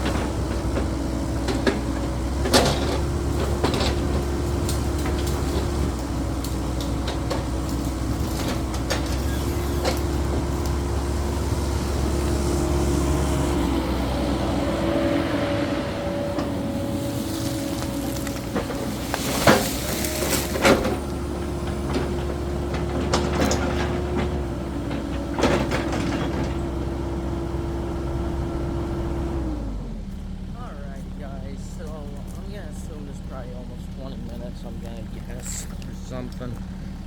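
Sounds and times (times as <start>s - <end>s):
excavator diesel engine droning: 0.0s - 37.0s.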